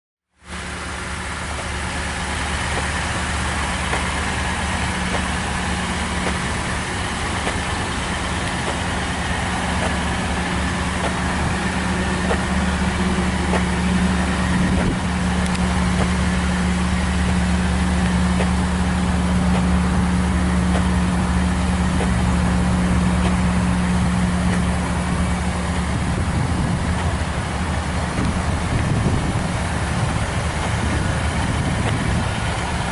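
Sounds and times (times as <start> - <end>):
pickup engine idling: 0.4 - 32.9.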